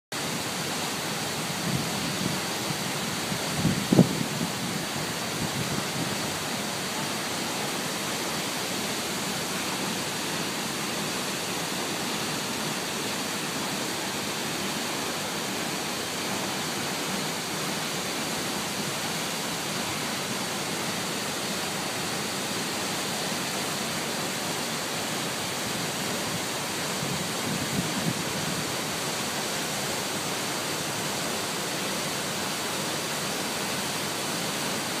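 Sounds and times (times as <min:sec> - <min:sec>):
waterfall rushing: 0:00.1 - 0:35.0.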